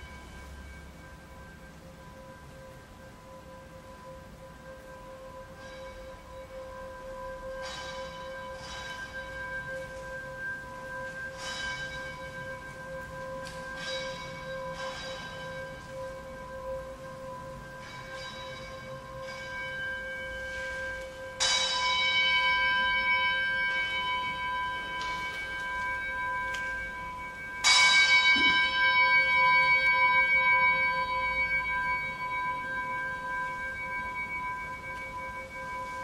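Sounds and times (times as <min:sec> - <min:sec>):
bell-like instrument ringing: 0:00.0 - 0:36.0.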